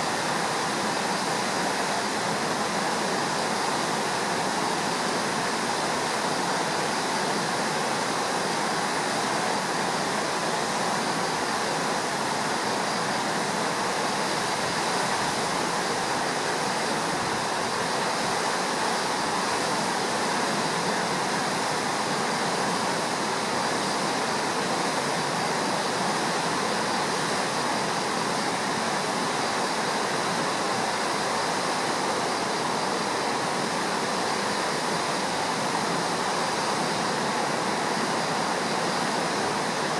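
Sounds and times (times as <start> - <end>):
roar of river in flood: 0.0 - 39.9.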